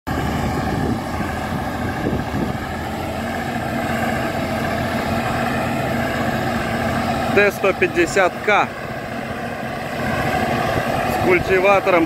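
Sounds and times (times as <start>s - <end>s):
tractor diesel engine under load: 0.1s - 12.0s.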